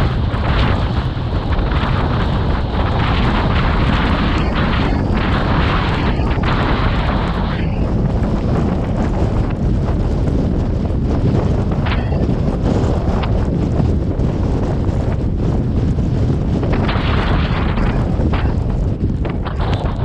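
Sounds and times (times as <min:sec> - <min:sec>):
strong wind buffeting microphone: 0:00.0 - 0:20.0.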